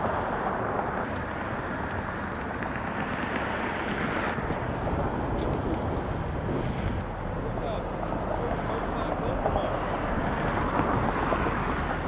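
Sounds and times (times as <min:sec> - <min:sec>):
wind blowing over microphone: 0:00.0 - 0:12.0.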